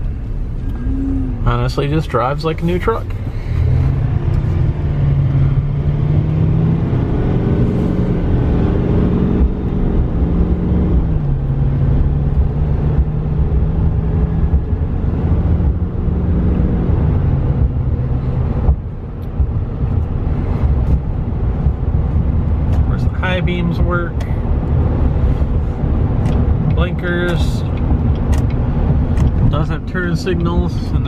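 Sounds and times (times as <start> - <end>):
pickup engine drone: 0.0 - 31.0
road noise: 0.0 - 31.0.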